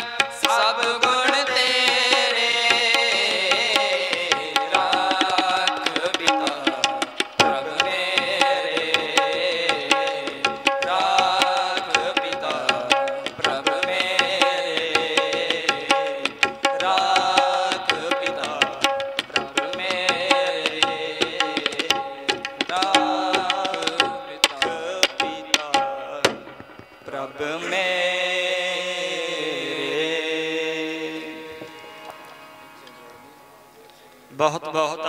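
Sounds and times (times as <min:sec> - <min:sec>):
young men singing: 0:00.0 - 0:31.7
tabla strokes: 0:00.0 - 0:34.3
harmonium: 0:00.0 - 0:35.0.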